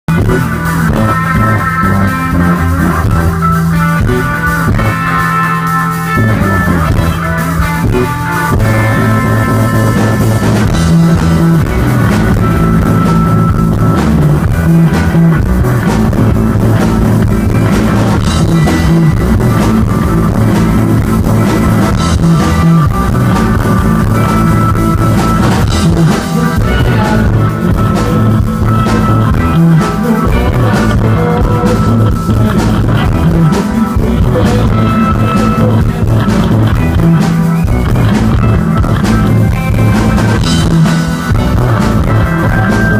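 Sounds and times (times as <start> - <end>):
bass guitar: 0.0 - 42.9
distorted electric guitar: 0.0 - 42.9
rock band playing live: 0.0 - 42.9
drum kit: 0.1 - 42.9.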